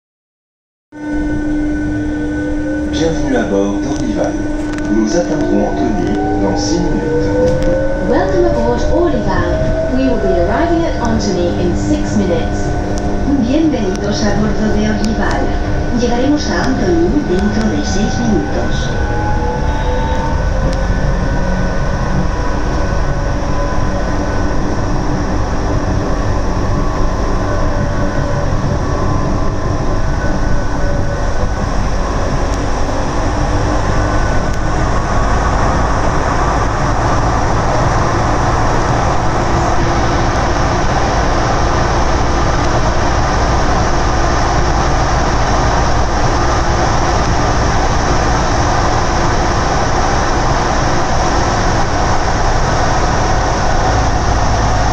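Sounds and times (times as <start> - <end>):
electric traction whine: 1.0 - 54.9
train running rumble: 1.0 - 54.9.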